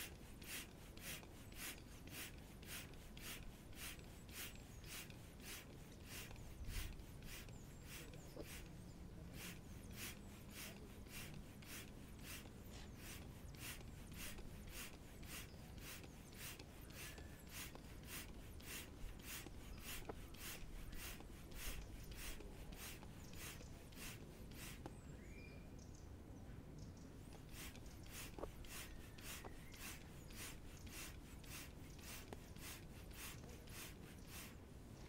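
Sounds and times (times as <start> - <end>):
hand pump hissing air: 0.0 - 24.9, 27.3 - 34.6.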